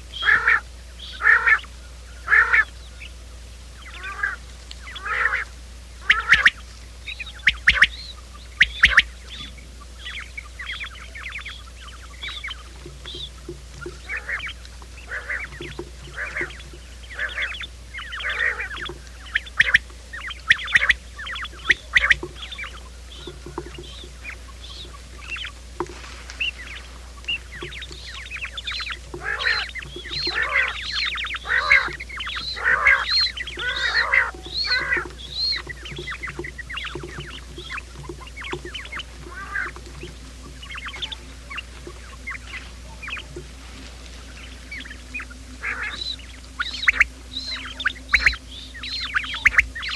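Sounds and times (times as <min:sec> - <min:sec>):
quail calling: 0:00.0 - 0:49.9
steady low hum: 0:00.0 - 0:49.9.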